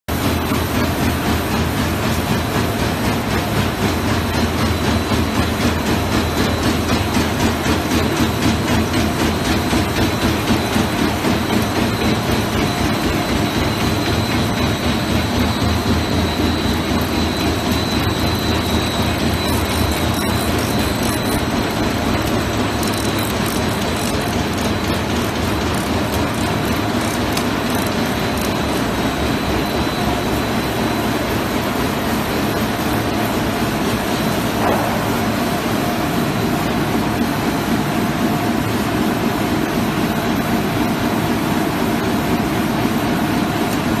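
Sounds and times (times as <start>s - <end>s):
paper machine rushing over rollers: 0.1s - 44.0s.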